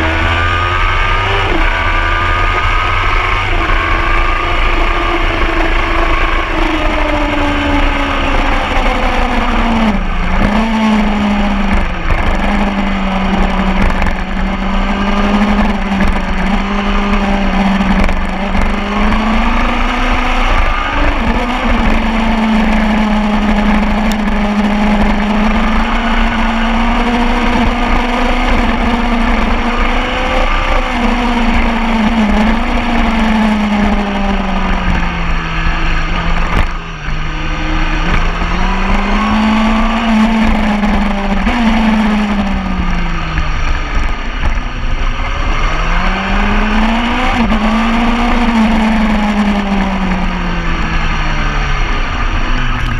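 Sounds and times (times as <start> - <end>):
motorbike engine at high revs: 0.0 - 52.9.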